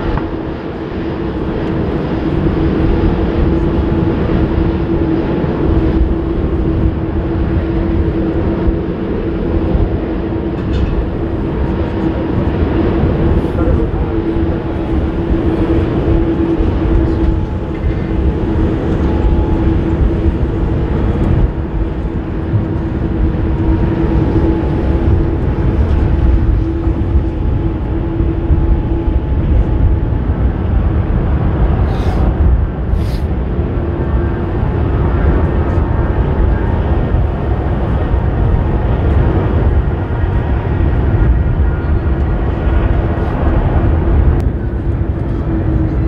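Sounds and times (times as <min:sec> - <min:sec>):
distant jet engines humming: 0:00.0 - 0:46.0
wind rumbling on microphone: 0:00.0 - 0:46.0.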